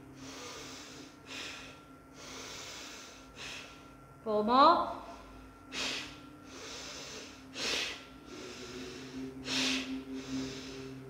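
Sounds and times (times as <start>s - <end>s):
forceful breathing through nose: 0.2s - 3.9s, 5.2s - 11.0s.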